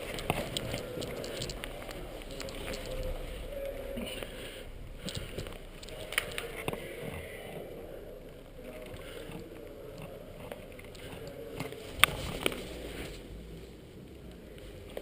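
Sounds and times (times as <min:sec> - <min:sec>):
low rustling of movement: 0:00.0 - 0:15.0.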